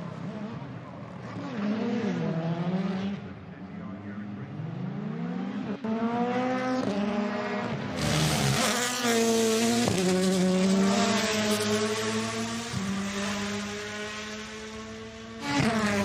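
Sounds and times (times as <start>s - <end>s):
race car engine accelerating: 0.2s - 16.0s.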